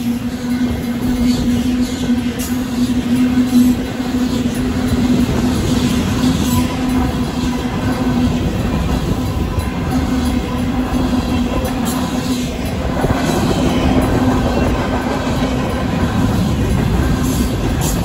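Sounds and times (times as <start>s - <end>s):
crossing bell ringing: 0.0s - 18.0s
train wheels rolling on rails: 0.0s - 18.0s.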